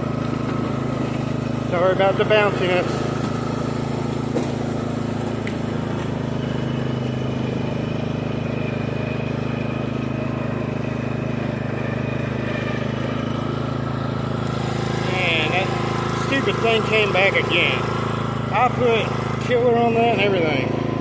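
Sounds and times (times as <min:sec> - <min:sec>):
riding lawn mower engine: 0:00.0 - 0:21.0.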